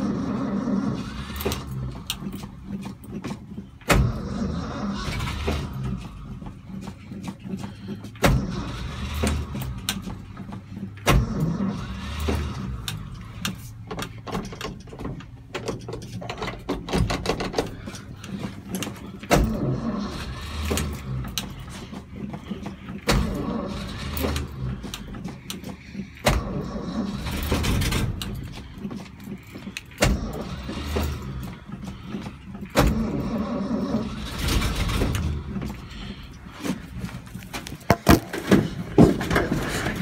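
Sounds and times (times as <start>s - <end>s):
engine running unevenly: 0.0s - 40.0s.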